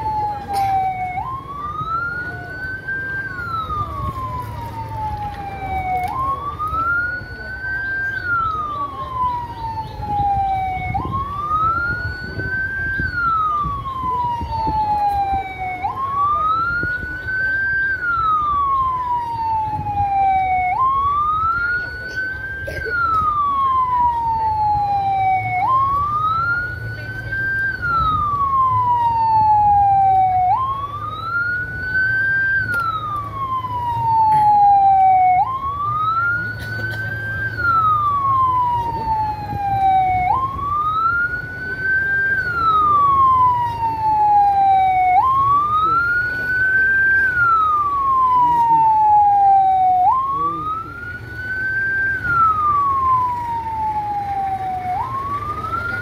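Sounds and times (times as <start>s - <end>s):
crowd chatter: 0.0s - 56.0s
police siren wailing: 0.0s - 56.0s.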